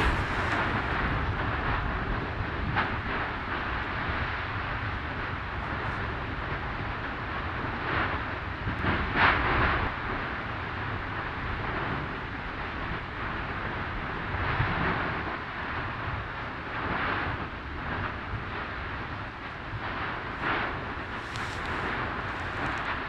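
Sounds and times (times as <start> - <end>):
lava fountaining rumble and hiss: 0.0 - 23.0.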